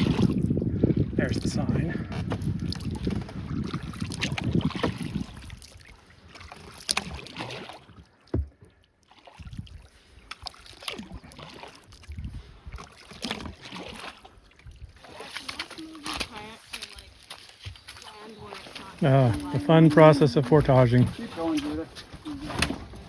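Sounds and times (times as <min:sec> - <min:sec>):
paddle strokes splashing: 0:00.0 - 0:01.2, 0:02.0 - 0:23.0.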